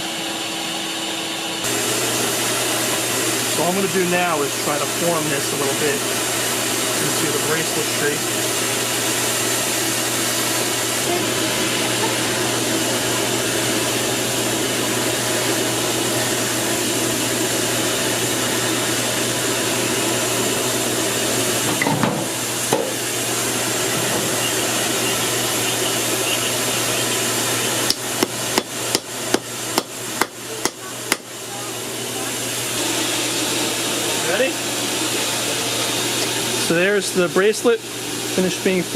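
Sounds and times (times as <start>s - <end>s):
forge air blower rushing: 0.0s - 38.9s.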